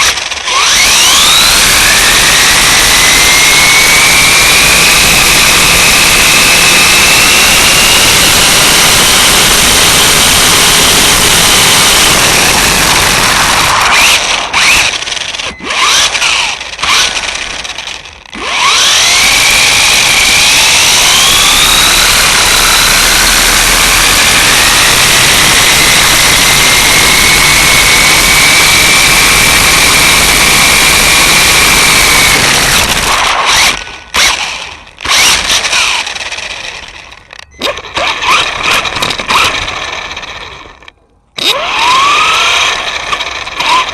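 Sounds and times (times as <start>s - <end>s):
electric motor whining: 0.0s - 43.9s
road and wind noise: 0.0s - 43.9s.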